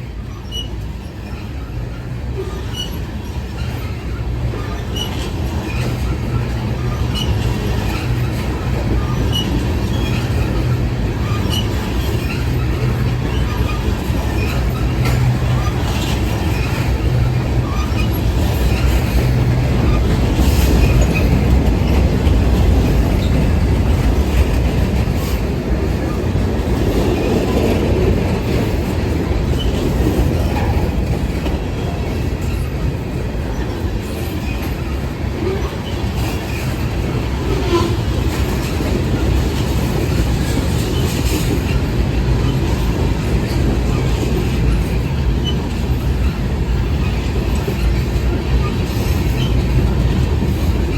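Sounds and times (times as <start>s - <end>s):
train rumbling past: 0.0s - 50.9s
wheels clicking over rails: 0.5s - 50.9s.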